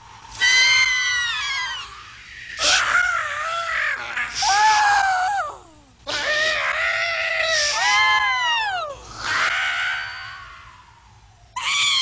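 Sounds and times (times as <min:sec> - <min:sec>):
high-pitched cartoon screams: 0:00.3 - 0:10.9, 0:11.6 - 0:12.0.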